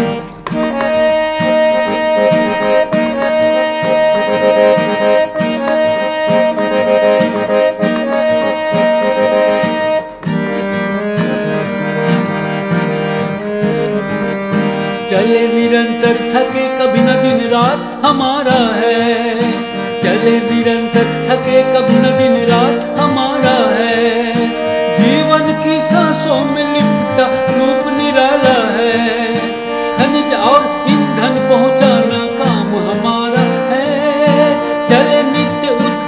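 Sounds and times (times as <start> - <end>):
held chords: 0.0 - 36.0.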